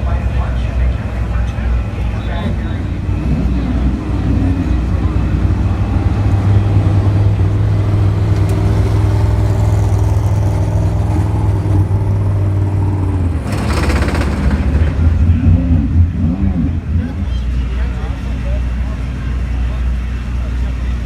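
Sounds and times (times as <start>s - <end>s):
race car passing: 0.0s - 18.6s
race car engines droning: 0.0s - 21.0s.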